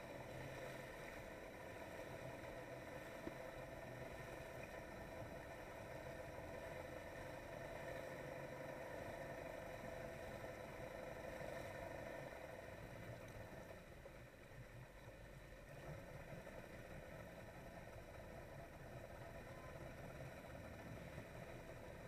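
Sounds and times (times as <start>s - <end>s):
watercraft engine humming: 0.0s - 22.0s.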